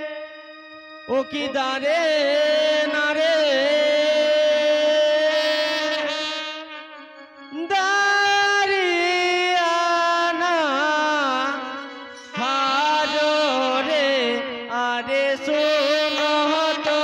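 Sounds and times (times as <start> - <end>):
wind instrument melody: 0.0 - 14.6.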